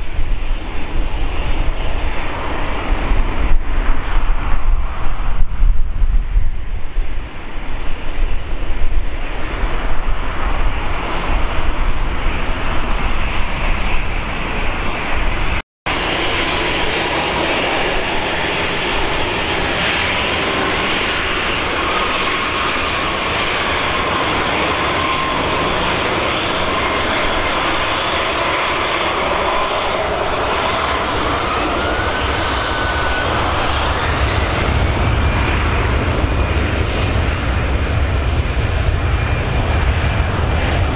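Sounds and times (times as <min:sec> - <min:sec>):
jet engines whining: 0:00.0 - 0:40.9
wind buffeting microphone: 0:00.0 - 0:40.9.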